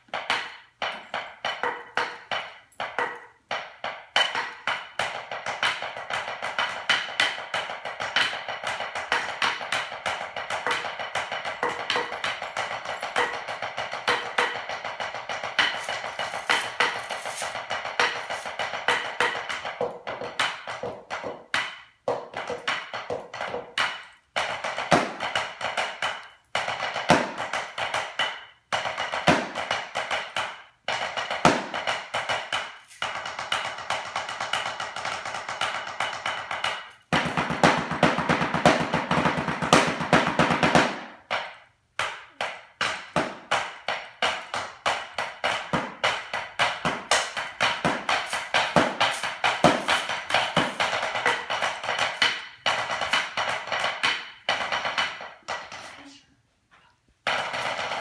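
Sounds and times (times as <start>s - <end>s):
drumsticks on practice pads: 0.0s - 56.2s.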